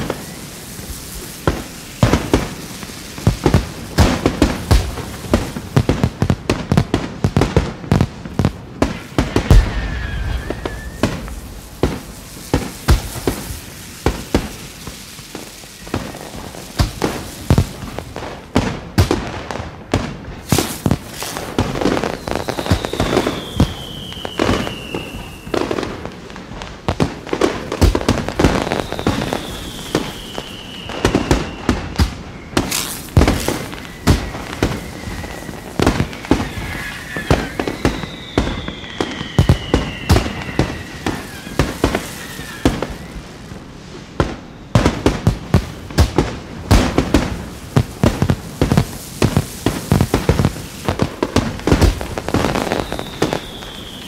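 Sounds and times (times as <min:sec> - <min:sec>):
falling firework whistles: 0:00.0 - 0:06.6, 0:08.2 - 0:54.0
fireworks bangs and crackling: 0:00.0 - 0:54.0.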